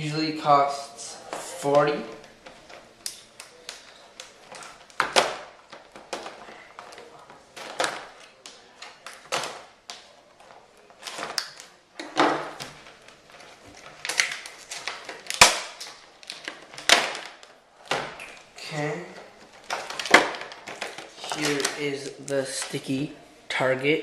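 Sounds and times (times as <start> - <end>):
packaging rustling and clicking: 2.1 - 23.0.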